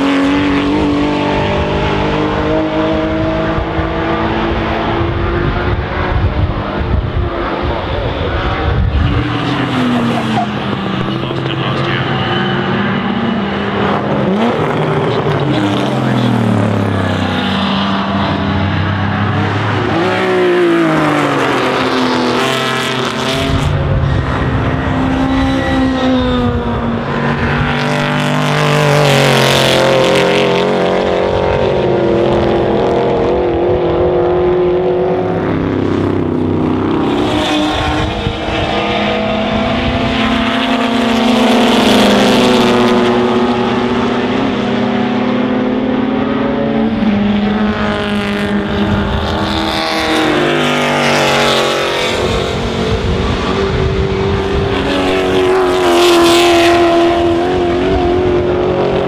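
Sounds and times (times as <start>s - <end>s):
race cars passing: 0.0s - 59.0s.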